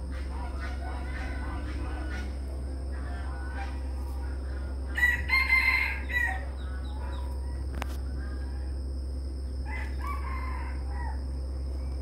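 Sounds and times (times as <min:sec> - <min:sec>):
rooster crowing: 0:00.1 - 0:08.9, 0:09.6 - 0:11.4.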